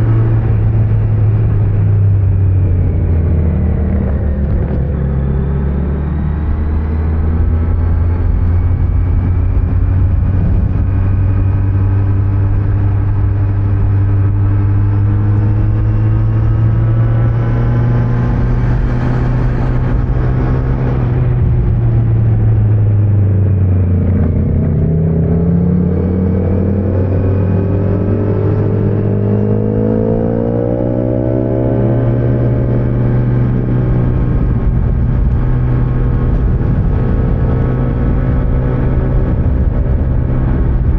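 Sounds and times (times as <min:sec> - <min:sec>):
motorcycle engine accelerating: 0:00.0 - 0:40.9
road and wind noise: 0:00.0 - 0:40.9.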